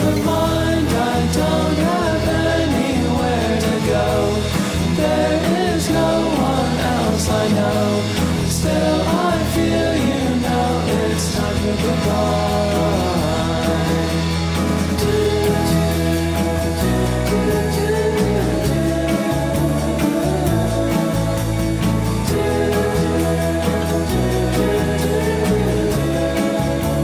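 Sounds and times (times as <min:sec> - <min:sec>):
instrumental backing music: 0:00.0 - 0:27.0
person singing: 0:00.0 - 0:27.0.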